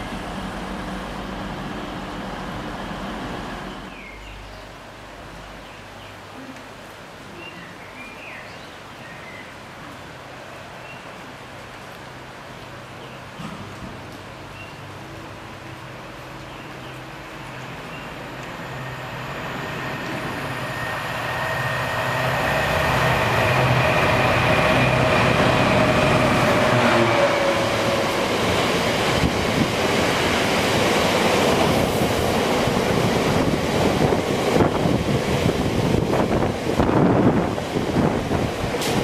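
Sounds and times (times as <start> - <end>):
train rumble and whine: 0.0 - 5.5, 13.2 - 39.0.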